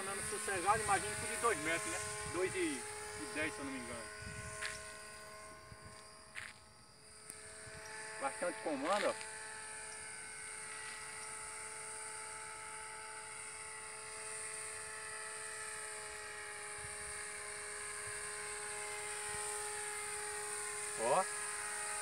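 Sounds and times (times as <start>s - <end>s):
model aircraft motor buzzing whine: 0.0s - 22.0s.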